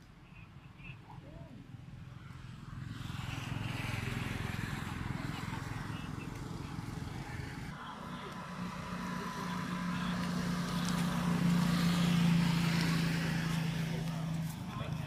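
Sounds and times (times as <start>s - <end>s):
vehicle engine passing: 1.1s - 15.0s.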